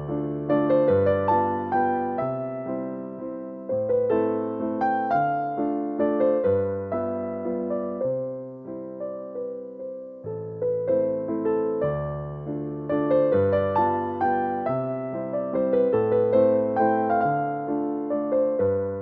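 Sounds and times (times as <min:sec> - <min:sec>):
slow piano waltz: 0:00.0 - 0:19.0.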